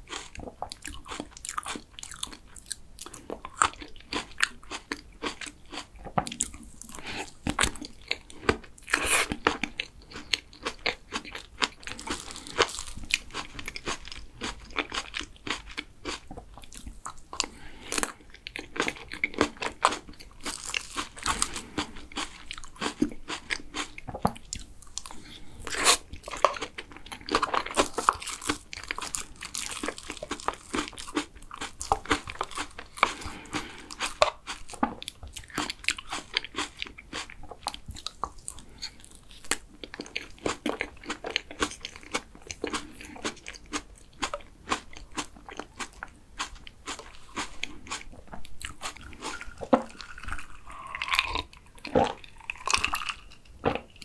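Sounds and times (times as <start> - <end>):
wet chewing and mouth clicks: 0.0 - 54.0.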